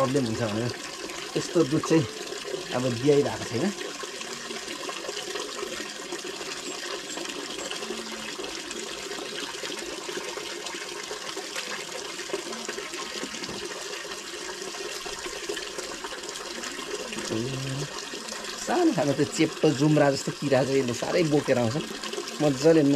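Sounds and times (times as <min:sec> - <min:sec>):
running water: 0:00.0 - 0:22.9.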